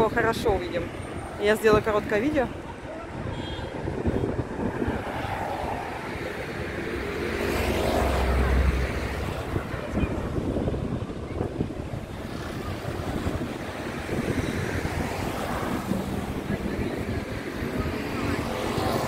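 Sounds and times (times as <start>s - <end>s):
street traffic noise: 0.0s - 19.0s.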